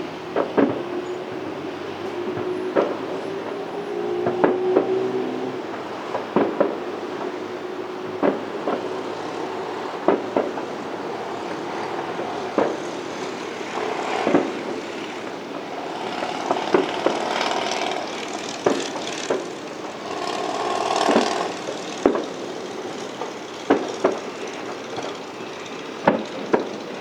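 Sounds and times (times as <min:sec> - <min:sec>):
firework bangs: 0:00.0 - 0:27.0
fireworks crackling: 0:00.0 - 0:27.0.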